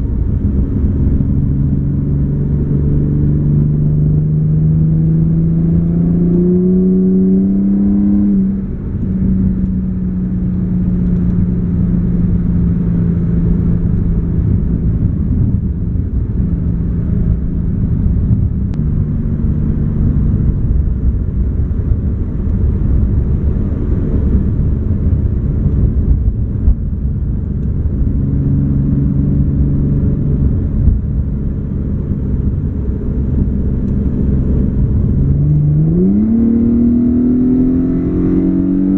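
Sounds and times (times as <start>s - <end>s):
car engine revving: 0.0s - 38.9s
road rumble: 0.0s - 38.9s.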